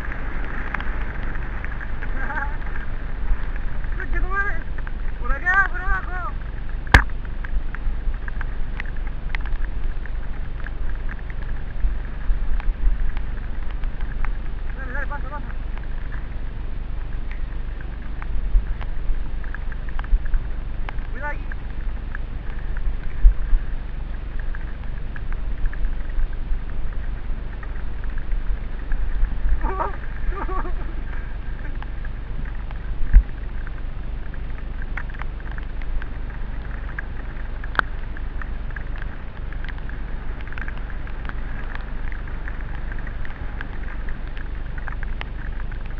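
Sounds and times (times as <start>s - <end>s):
bike tyre noise: 0.0s - 45.9s
sharp clicks and rattles: 0.0s - 45.9s
wind rumble on microphone: 0.0s - 45.9s.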